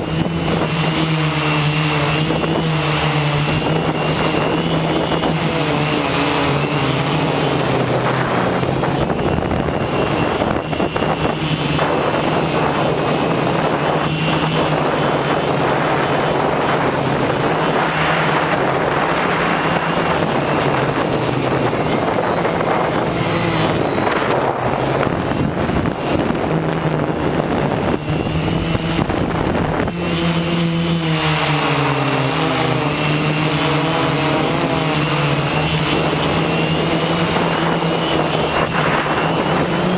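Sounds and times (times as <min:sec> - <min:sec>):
drone motors buzzing: 0:00.0 - 0:39.9.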